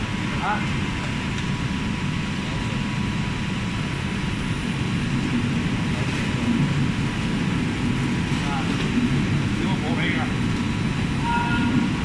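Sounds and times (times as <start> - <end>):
rotating drum machine roaring: 0.0 - 12.0.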